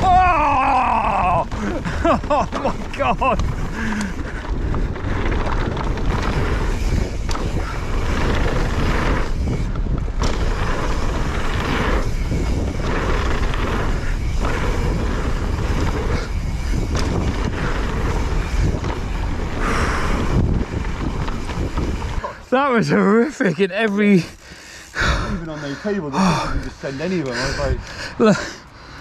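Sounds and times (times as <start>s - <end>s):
wind buffeting microphone: 0.0s - 23.0s, 24.2s - 28.4s
bike tyres rolling on dirt: 0.0s - 29.0s.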